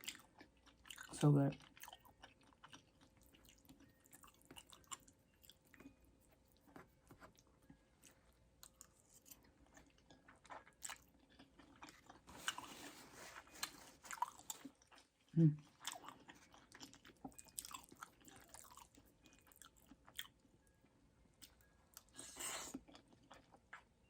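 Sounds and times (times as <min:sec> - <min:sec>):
close-miked wet chewing: 0:00.0 - 0:20.5.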